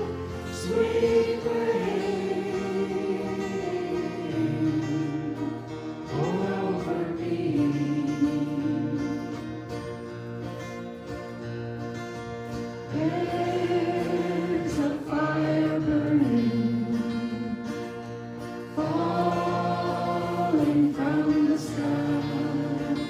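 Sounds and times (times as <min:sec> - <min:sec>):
person singing worship song: 0:00.0 - 0:09.6, 0:12.9 - 0:18.0, 0:18.7 - 0:23.0
acoustic guitar: 0:00.0 - 0:23.0.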